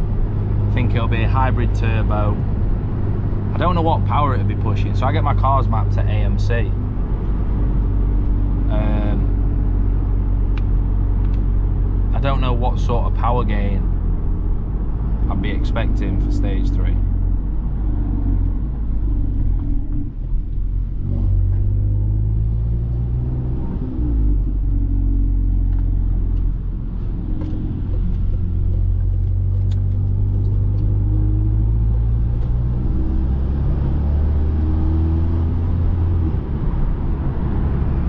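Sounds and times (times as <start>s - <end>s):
car engine drone: 0.0s - 38.0s
road noise: 0.0s - 38.0s.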